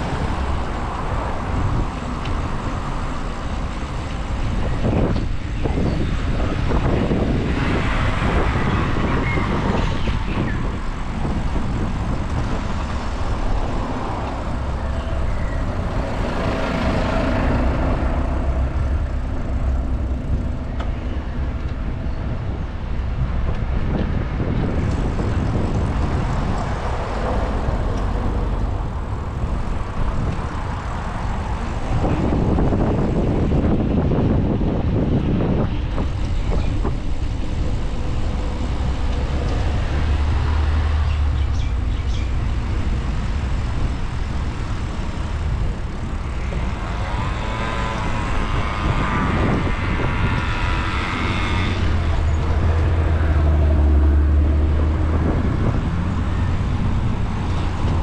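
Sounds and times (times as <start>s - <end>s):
cars and trucks driving past: 0.0s - 58.0s.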